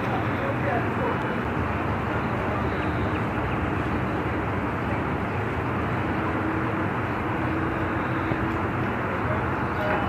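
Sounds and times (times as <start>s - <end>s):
vehicles driving through floodwater: 0.0s - 10.0s.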